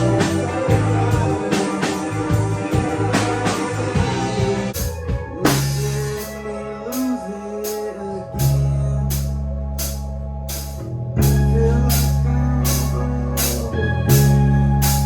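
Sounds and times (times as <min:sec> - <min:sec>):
drum kit beating: 0:00.0 - 0:07.8, 0:08.4 - 0:15.0
psychedelic rock band playing: 0:00.0 - 0:15.0.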